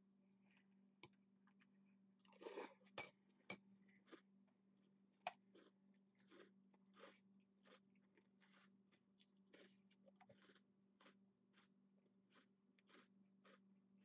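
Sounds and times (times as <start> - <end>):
chewing and crunching: 1.5 - 4.5, 5.2 - 14.0.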